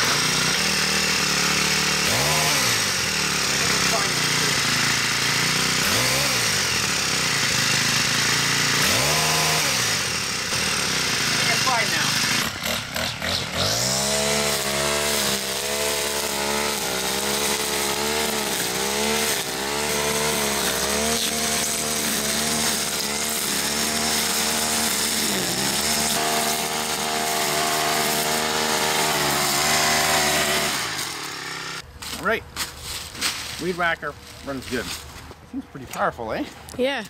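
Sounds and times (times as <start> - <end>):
string trimmer engine revving: 0.0 - 31.8
trimmer line cutting grass: 0.0 - 32.2.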